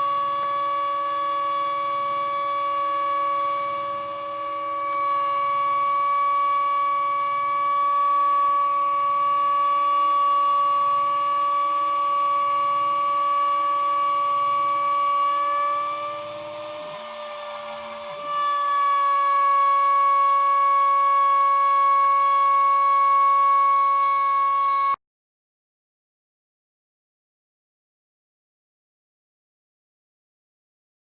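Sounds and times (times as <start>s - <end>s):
stepper motors whining: 0.0s - 25.0s.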